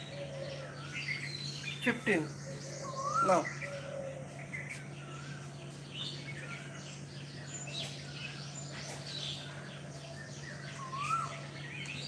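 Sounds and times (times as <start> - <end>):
birds chirping and calling: 0.0 - 12.0
steady low hum: 0.0 - 12.0.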